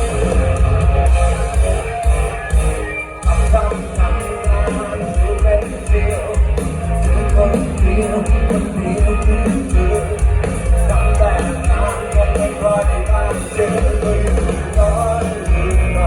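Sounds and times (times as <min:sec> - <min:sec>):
heavy drum beat: 0:00.0 - 0:16.0
rock band playing live: 0:00.0 - 0:16.0
man singing: 0:01.0 - 0:16.0.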